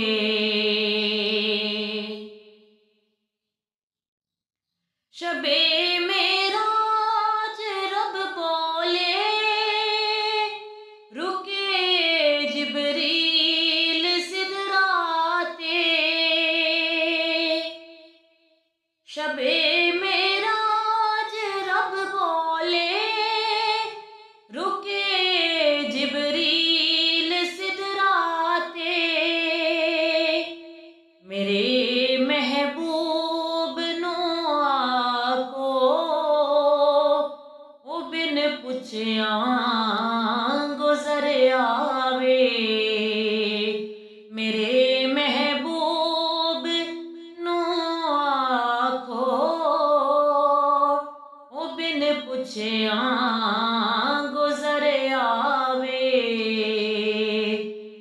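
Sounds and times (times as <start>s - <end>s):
woman singing unaccompanied: 0.0s - 2.4s, 5.2s - 17.9s, 19.1s - 37.3s, 37.9s - 57.8s.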